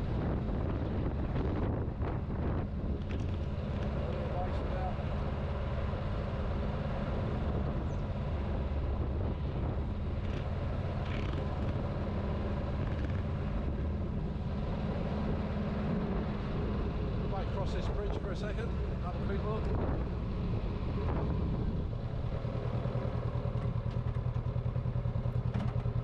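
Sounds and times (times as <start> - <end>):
motorcycle engine running: 0.0 - 26.0
steady low hum: 0.0 - 26.0.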